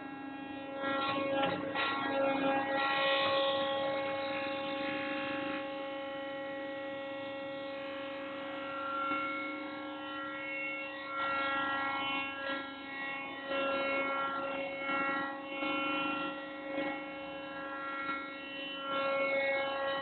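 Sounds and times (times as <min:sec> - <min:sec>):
tube bending machine whine: 0:00.0 - 0:20.0.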